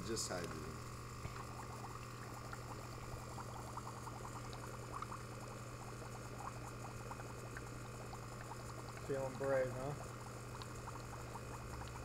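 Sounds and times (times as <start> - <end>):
steady low hum: 0.0 - 12.0
gas bubbling in soapy water: 0.1 - 12.0.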